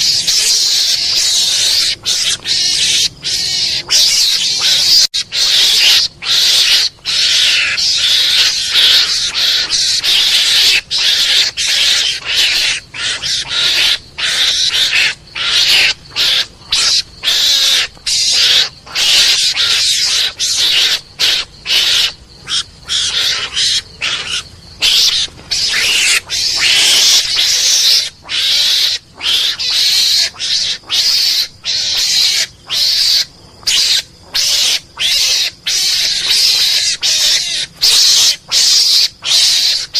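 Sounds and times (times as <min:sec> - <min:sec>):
mongoose squeals and chatter: 0:00.0 - 0:39.9.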